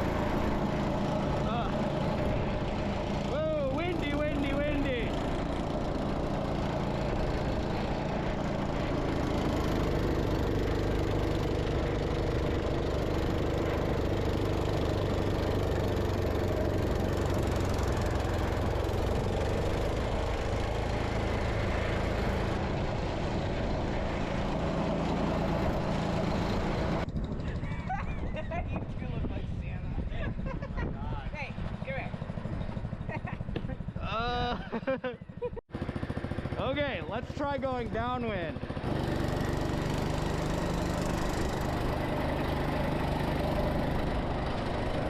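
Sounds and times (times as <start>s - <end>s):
snow blower engine running: 0.0s - 28.5s, 31.4s - 45.0s.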